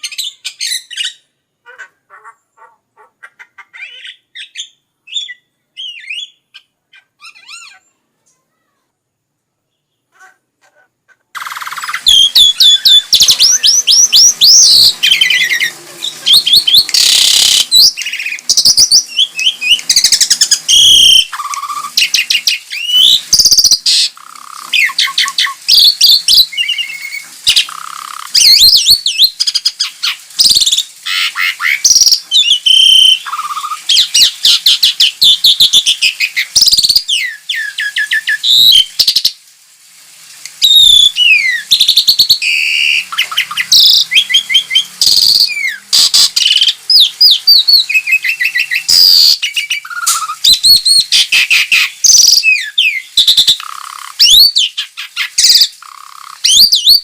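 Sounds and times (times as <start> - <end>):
birds whistling and squawking: 0.0 - 2.0, 3.7 - 7.9, 11.4 - 39.3, 40.6 - 57.0.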